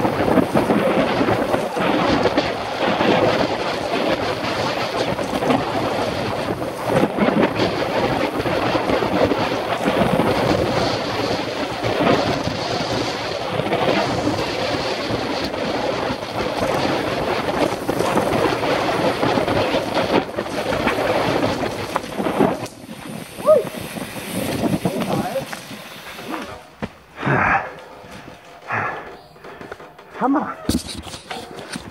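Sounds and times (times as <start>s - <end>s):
mountain bike rumbling and rattling: 0.0s - 31.9s
wind buffeting microphone: 0.0s - 31.9s.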